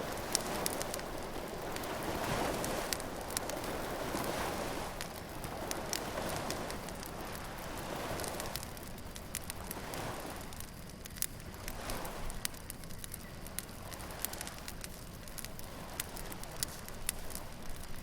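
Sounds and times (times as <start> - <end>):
bonfire crackling and popping: 0.0 - 18.0
surf washing: 0.0 - 18.0.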